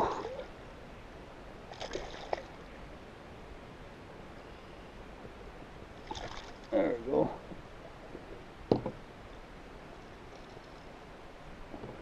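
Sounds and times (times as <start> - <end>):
faint water sounds: 0.0 - 12.0.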